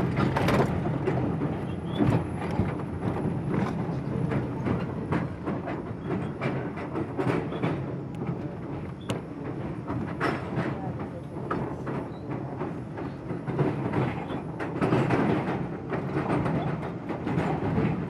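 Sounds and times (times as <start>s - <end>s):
subway train wheels rumbling on rail: 0.0s - 18.0s
wheels clicking over rail joints: 0.0s - 18.0s.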